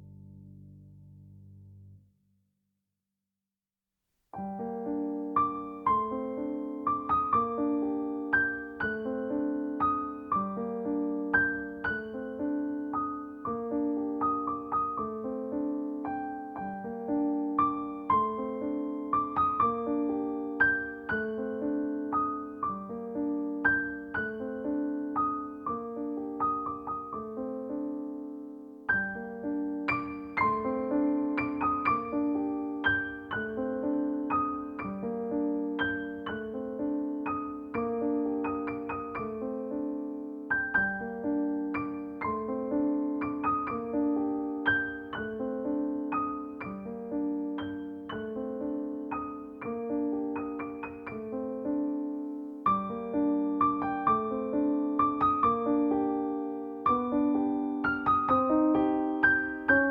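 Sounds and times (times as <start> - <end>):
solo piano music: 0.0 - 2.1, 4.3 - 59.9.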